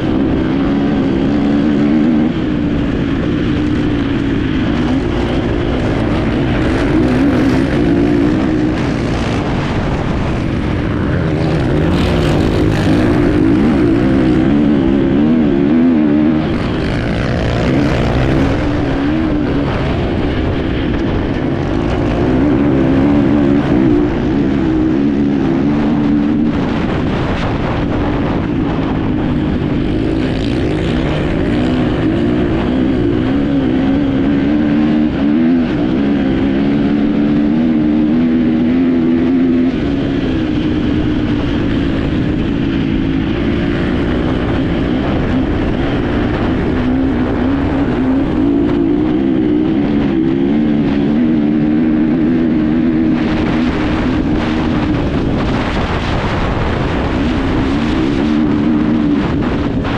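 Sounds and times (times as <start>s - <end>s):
motorcycle engine revving: 0.0s - 59.9s
riding noise: 0.0s - 59.9s
rushing wind: 0.0s - 59.9s.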